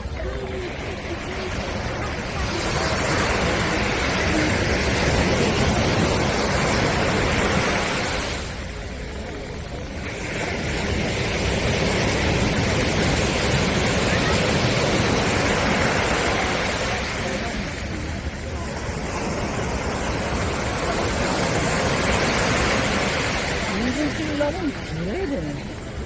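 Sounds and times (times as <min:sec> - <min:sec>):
sea surf breaking on beach: 0:00.0 - 0:26.0.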